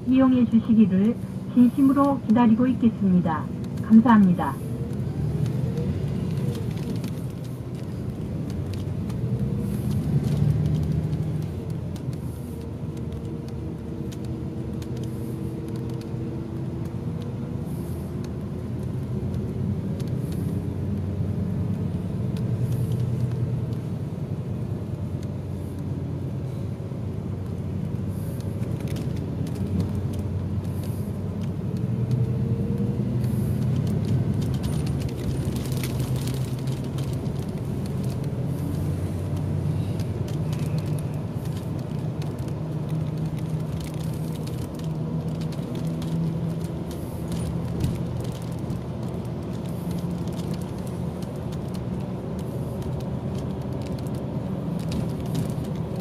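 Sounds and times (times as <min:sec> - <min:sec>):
bus diesel engine: 0:00.0 - 0:56.0
road noise: 0:00.0 - 0:56.0.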